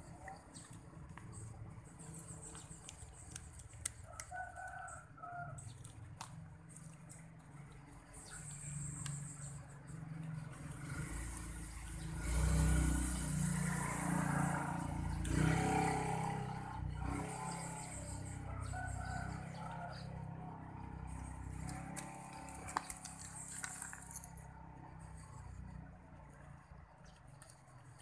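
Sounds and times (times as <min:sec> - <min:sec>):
vehicle engine passing: 0:05.3 - 0:28.0.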